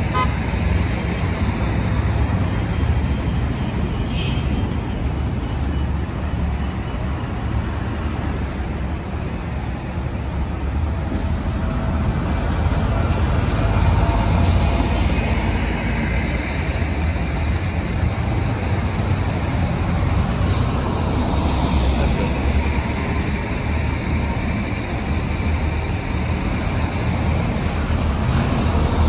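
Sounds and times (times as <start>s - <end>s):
buses driving past: 0.0s - 29.0s
traffic noise: 0.0s - 29.0s.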